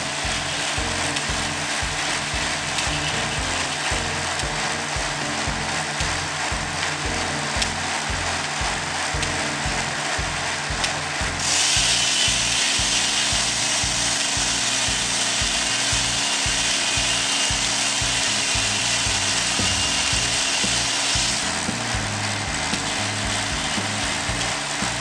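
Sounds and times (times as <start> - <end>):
saw cutting wood: 0.0 - 25.0.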